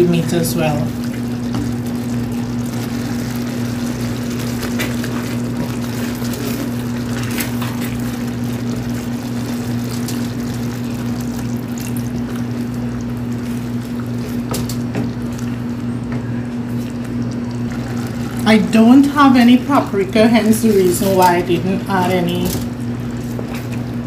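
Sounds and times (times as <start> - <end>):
sauce simmering: 0.0 - 20.1
steady low hum: 0.0 - 24.0.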